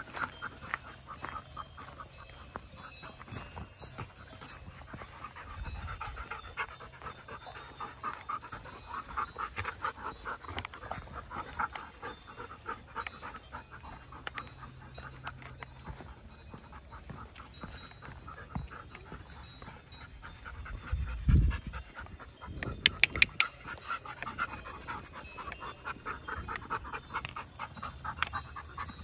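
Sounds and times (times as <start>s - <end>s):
dogs panting: 0.0s - 29.0s.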